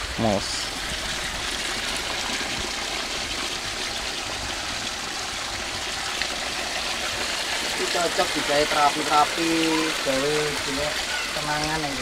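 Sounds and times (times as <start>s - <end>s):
water pouring into pool: 0.0s - 12.0s.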